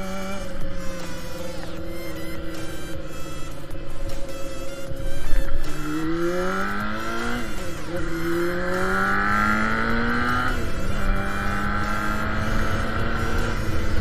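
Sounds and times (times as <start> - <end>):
motorcycle accelerating through gears: 0.0 - 14.0.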